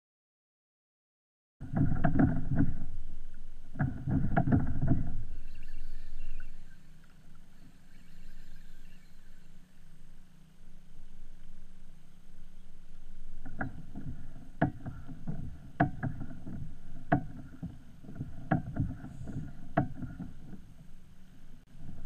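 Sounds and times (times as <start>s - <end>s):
kayak hull knocking and creaking: 1.6s - 10.2s, 12.7s - 22.0s
low rumbling water: 1.6s - 22.0s.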